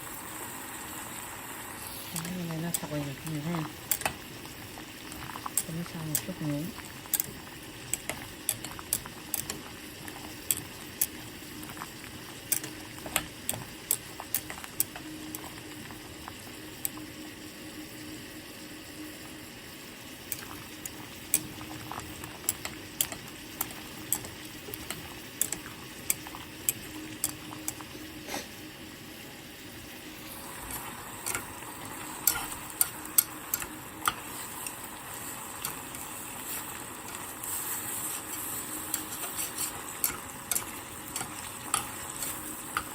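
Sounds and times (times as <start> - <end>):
food bubbling and sizzling in pot: 0.0 - 42.9
utensil clicking against pot: 2.1 - 17.0, 20.3 - 28.0, 30.7 - 42.9.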